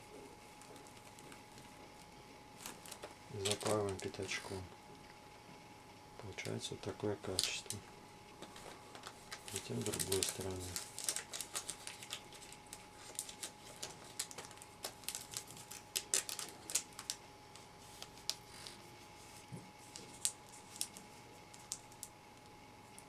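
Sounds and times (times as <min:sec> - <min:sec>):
faint steady hum: 0:00.0 - 0:23.0
plastic wrapping film crinkling: 0:00.1 - 0:04.7, 0:06.2 - 0:23.0.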